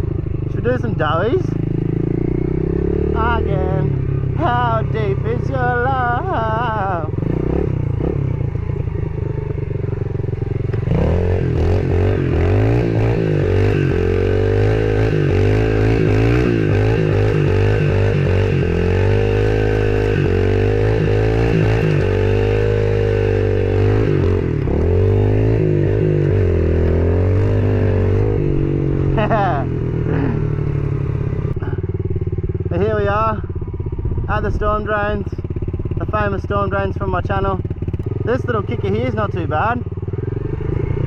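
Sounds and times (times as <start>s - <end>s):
small motorbike engine running: 0.0s - 41.0s.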